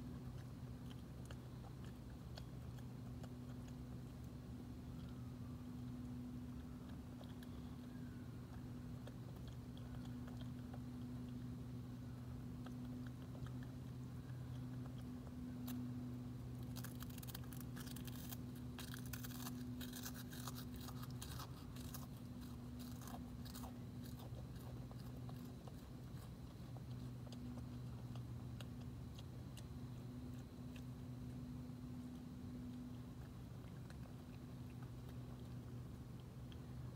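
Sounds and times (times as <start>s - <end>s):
animal crunching dry food: 0.0s - 36.9s
steady low hum: 0.0s - 36.9s.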